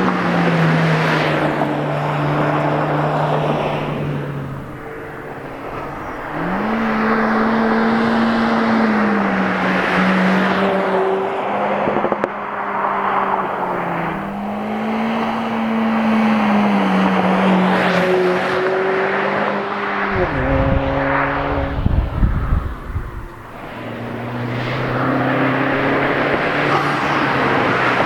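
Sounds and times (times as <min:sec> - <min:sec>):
broad rushing noise: 0:00.0 - 0:28.0
car engine revving: 0:00.0 - 0:28.0.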